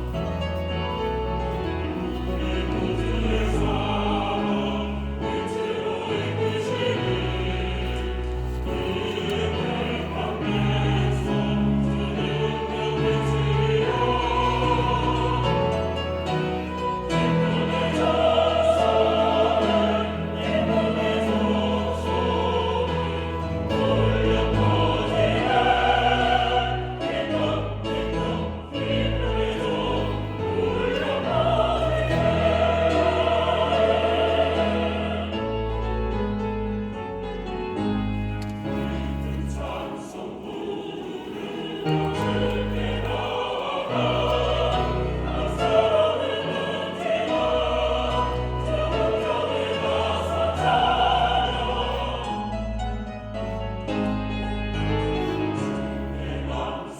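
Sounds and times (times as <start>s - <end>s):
church choir singing: 0.0s - 56.9s.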